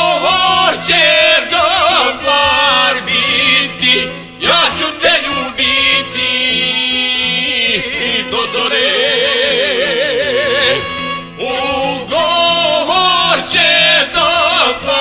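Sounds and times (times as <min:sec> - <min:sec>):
instrumental backing: 0:00.0 - 0:15.0
men singing folk song: 0:00.0 - 0:15.0.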